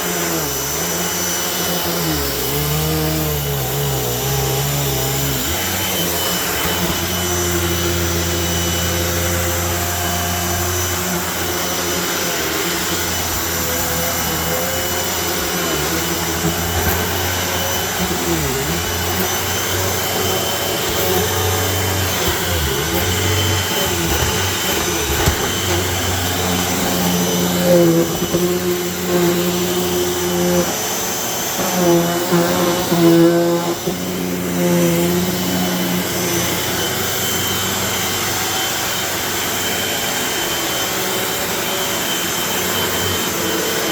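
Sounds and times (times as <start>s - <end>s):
vacuum cleaner running on carpet: 0.0s - 43.9s.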